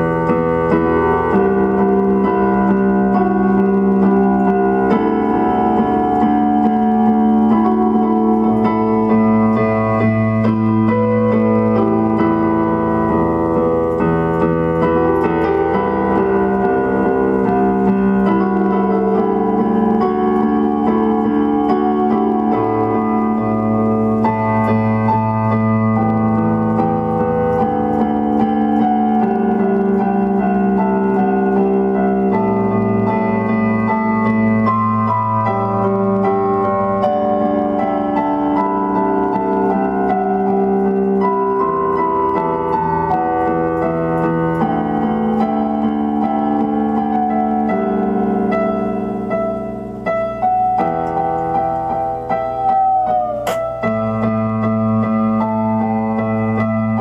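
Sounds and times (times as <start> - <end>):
keyboard playing slow chords: 0.0 - 57.0.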